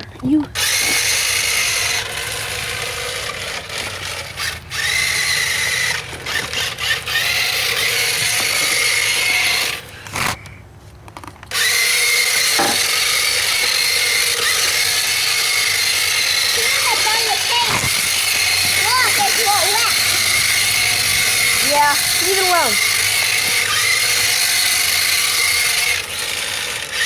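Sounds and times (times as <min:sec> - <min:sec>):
electric motor whining: 0:00.5 - 0:10.6, 0:11.5 - 0:27.0.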